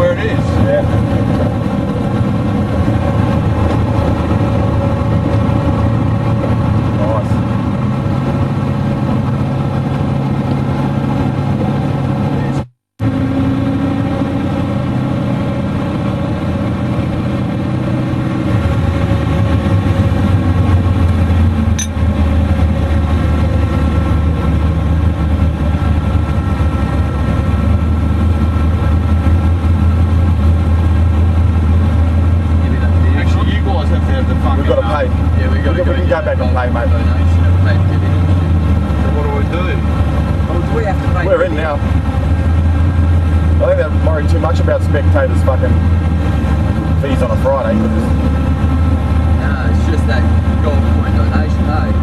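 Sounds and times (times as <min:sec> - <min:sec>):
car engine droning: 0:00.0 - 0:52.0.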